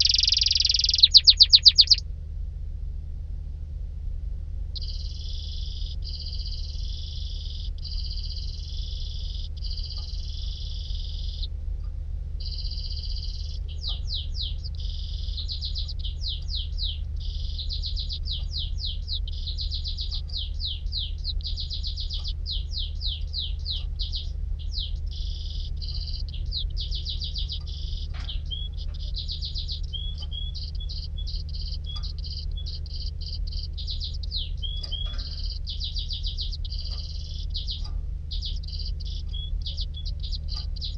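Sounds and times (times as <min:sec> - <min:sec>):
canary singing trills: 0:00.0 - 0:02.0, 0:04.8 - 0:11.5, 0:12.4 - 0:40.9
steady low hum: 0:00.0 - 0:40.9.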